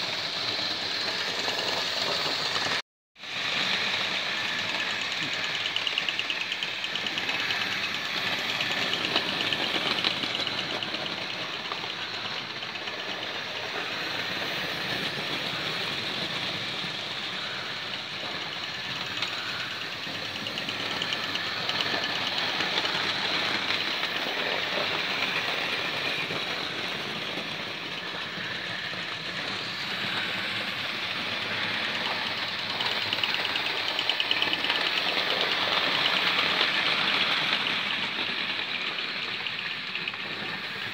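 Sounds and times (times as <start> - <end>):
small electric motors whirring: 0.0 - 40.9
wheels rattling on rails: 0.0 - 40.9.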